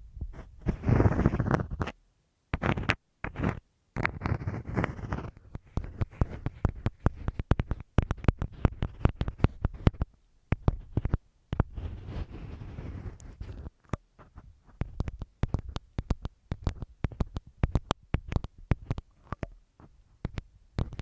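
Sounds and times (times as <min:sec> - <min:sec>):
crackly rubbing: 0:00.2 - 0:21.0
scratching on masking tape: 0:00.3 - 0:02.0, 0:02.6 - 0:19.5, 0:20.2 - 0:21.0
sharp little clicks and scrapes: 0:00.3 - 0:21.0.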